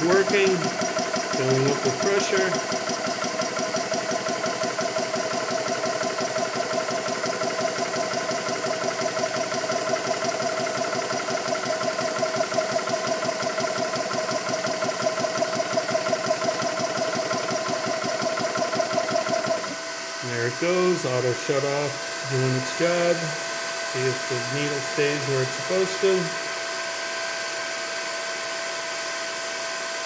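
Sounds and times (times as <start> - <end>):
air compressor pulsing: 0.0 - 30.0.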